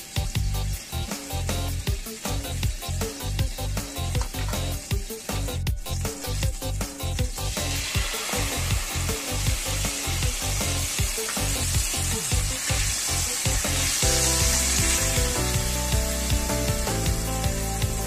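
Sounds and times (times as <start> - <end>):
background music with steady beat: 0.0 - 18.0
soy sauce sizzling in a skillet: 0.0 - 18.0.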